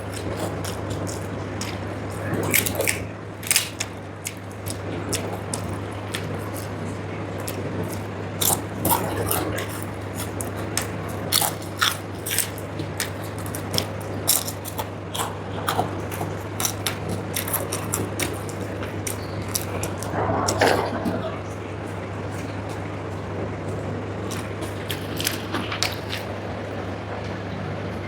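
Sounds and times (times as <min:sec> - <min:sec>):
chewing crunchy food: 0:00.0 - 0:26.4
steady low hum: 0:00.0 - 0:28.0.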